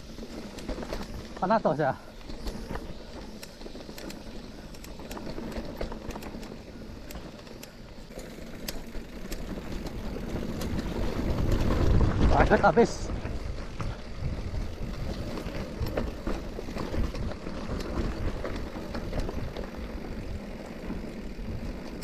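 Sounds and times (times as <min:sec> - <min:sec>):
bike clicks and rattles: 0:00.0 - 0:22.0
tyres crunching over dirt and stones: 0:00.0 - 0:22.0.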